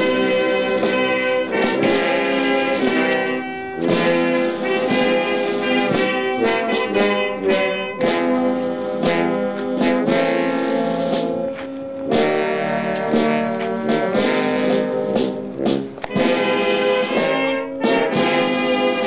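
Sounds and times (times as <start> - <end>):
brass band playing chords: 0.0 - 19.0.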